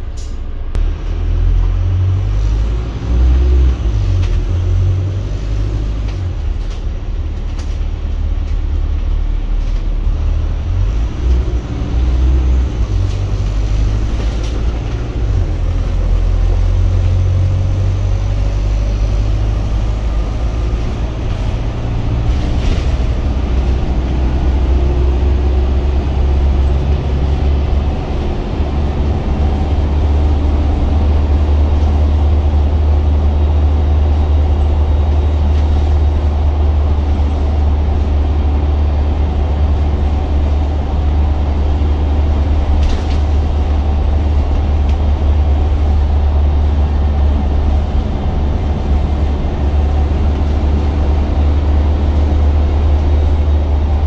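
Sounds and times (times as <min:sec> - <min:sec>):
bus engine drone: 0:00.0 - 0:54.0
road noise: 0:00.0 - 0:54.0.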